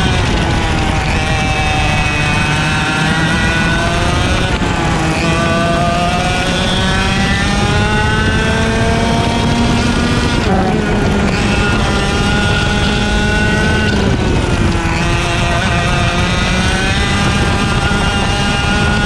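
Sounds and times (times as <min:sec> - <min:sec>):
kart engine racing: 0:00.0 - 0:19.0.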